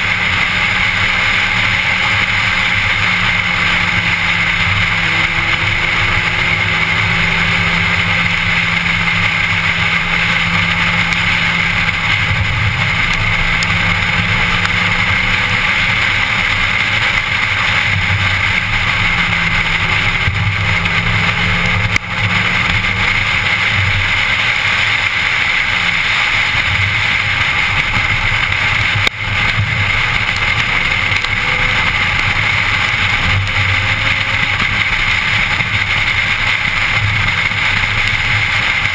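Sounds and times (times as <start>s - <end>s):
car engine from inside cabin: 0.0s - 38.9s
road noise: 0.0s - 38.9s.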